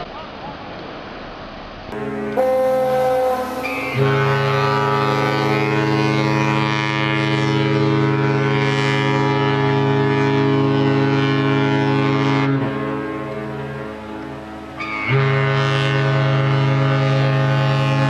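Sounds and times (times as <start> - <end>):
deep ship's horn blast: 1.9 - 18.0.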